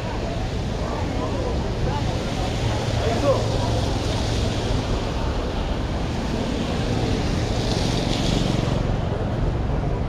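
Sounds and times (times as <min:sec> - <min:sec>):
low traffic rumble: 0:00.0 - 0:10.0
tyres hissing on wet road: 0:00.1 - 0:09.6.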